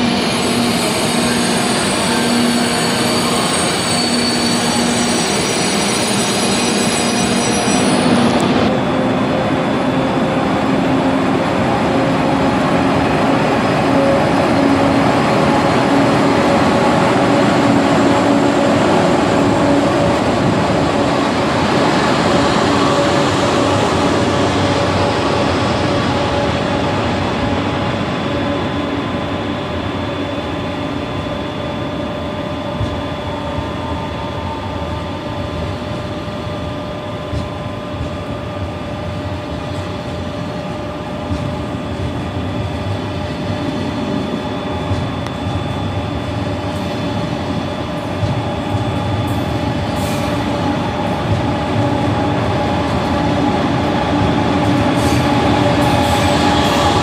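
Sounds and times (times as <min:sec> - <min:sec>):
train rolling on tracks: 0:00.0 - 0:57.0.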